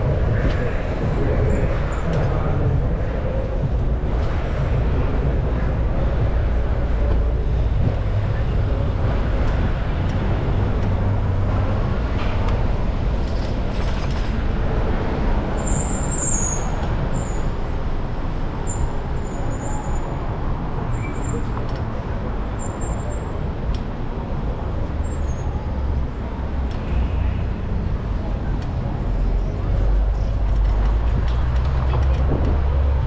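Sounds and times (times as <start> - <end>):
city traffic rumble: 0.0 - 33.0.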